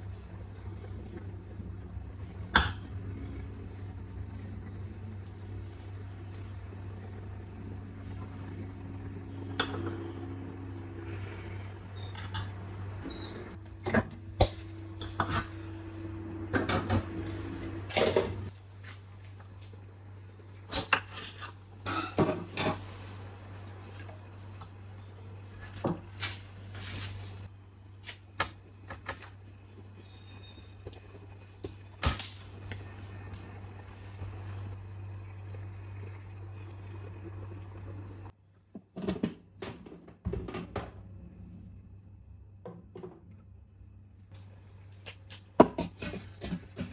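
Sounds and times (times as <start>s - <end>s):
appliance humming: 0.0s - 46.9s.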